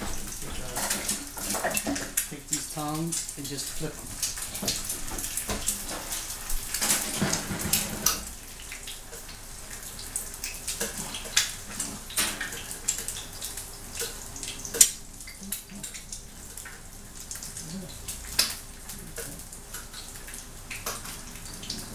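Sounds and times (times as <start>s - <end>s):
bread sizzling in a pan: 0.0s - 21.9s.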